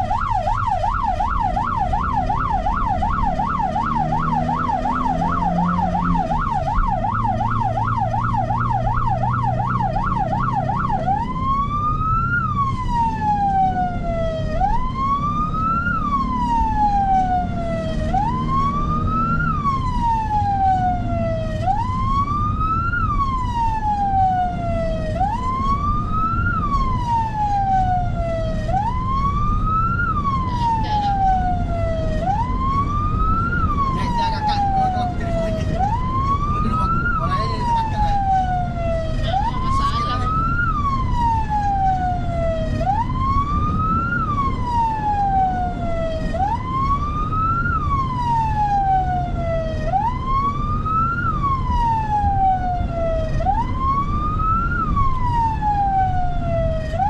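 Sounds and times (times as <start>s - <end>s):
emergency siren wailing: 0.0s - 57.0s.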